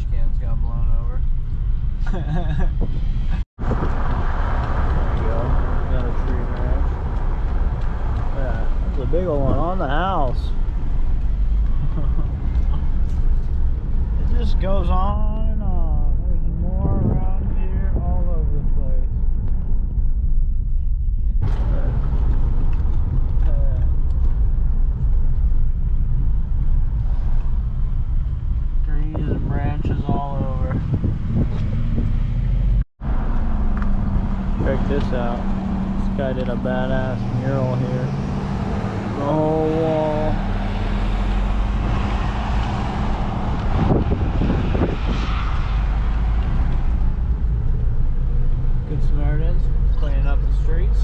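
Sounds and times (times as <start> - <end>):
car road and engine rumble: 0.0 - 51.0
rush of noise: 0.0 - 51.0.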